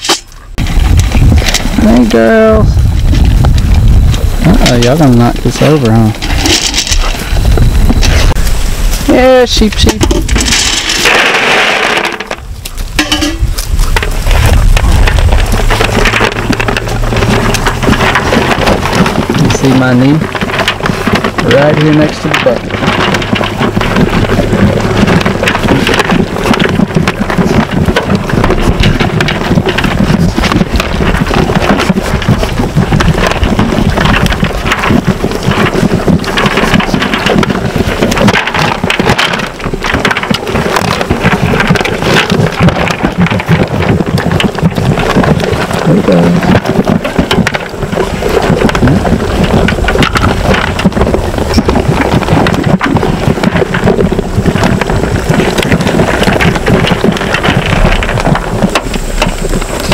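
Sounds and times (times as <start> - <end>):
crackling and rustling: 0.0 - 59.9
sheep eating from metal pan: 0.0 - 59.9
rumbling buffets: 0.4 - 59.9.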